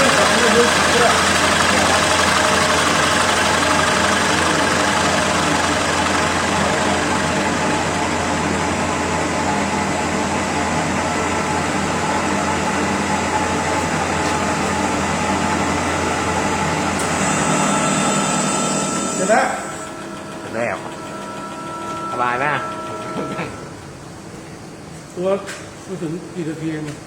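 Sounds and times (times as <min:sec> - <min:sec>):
lathe motor hum: 0:00.0 - 0:24.2.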